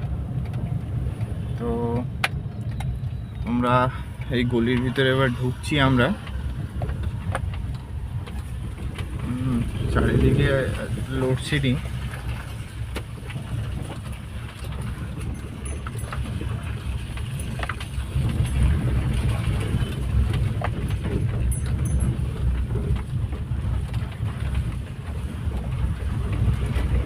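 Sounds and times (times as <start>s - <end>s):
vehicle on wet road: 0.0s - 27.0s.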